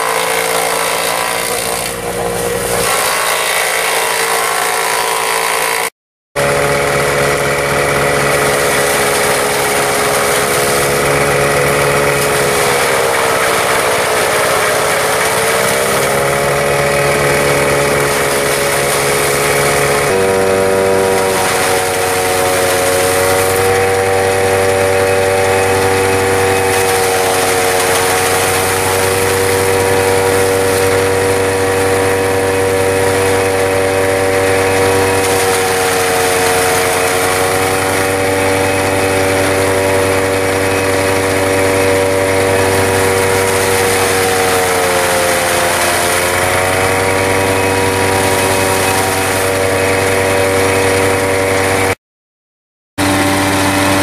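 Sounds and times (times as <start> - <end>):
diesel engine shredder running: 0.0 - 52.0, 53.0 - 54.0.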